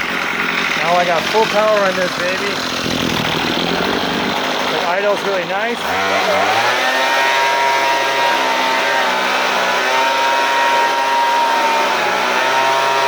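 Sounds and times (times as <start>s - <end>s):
weed eater engine at high revs: 0.0s - 13.0s.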